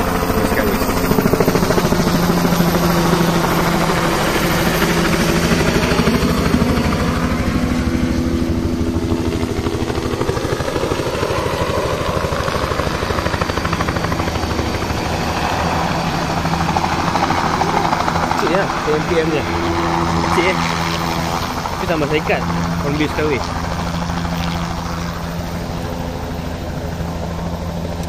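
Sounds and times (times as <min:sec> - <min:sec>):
helicopter rotor chop: 0:00.0 - 0:28.0.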